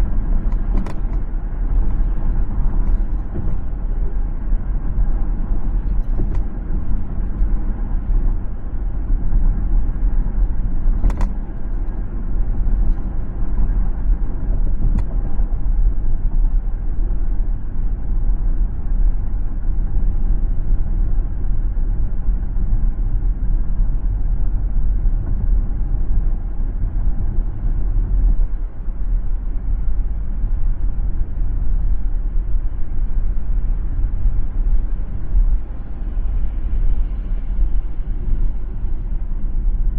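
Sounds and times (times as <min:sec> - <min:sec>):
car road rumble: 0:00.0 - 0:39.9.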